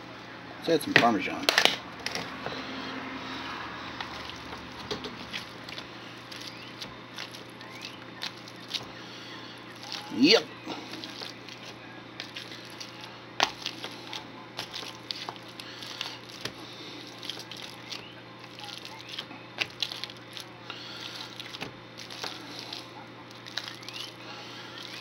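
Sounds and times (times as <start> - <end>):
masher squishing potatoes: 0.9 - 25.0.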